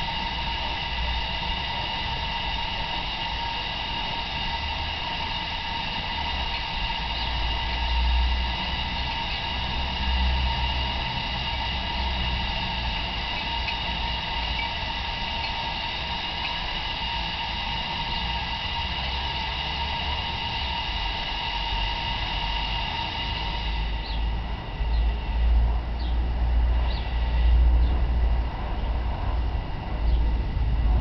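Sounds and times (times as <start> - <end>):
faint steady whine: 0.0 - 31.0
low rumbles: 0.0 - 31.0
steam hissing: 0.0 - 31.0.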